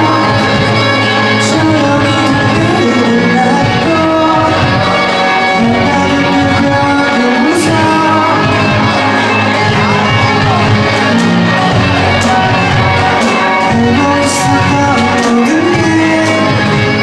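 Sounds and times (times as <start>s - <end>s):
rock band playing slow song: 0.0s - 17.0s.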